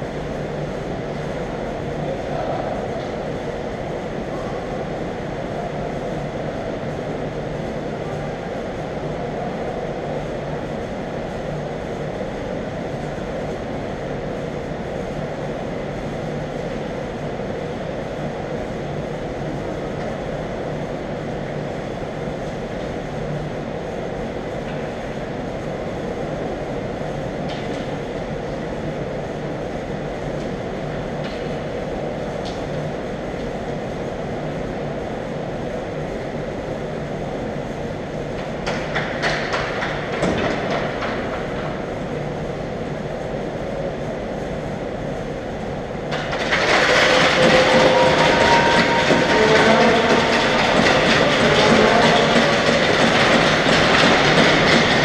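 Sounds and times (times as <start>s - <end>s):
rumbling ice rink room noise: 0.0s - 55.0s.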